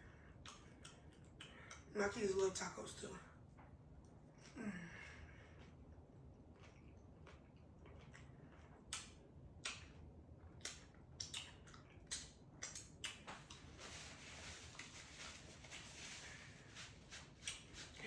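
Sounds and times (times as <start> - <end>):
person chewing food: 0.0 - 1.9, 5.2 - 17.9.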